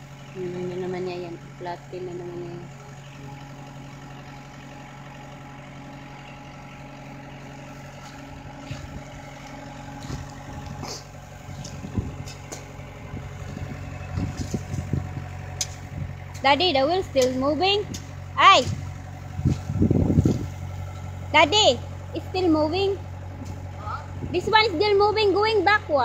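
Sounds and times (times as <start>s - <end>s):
loader engine idling: 0.0s - 26.0s.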